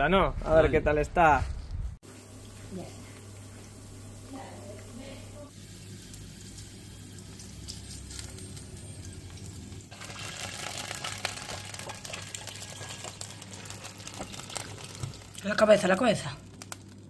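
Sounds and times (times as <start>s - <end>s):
hot oil sizzling and crackling: 2.0s - 4.8s, 5.5s - 17.0s.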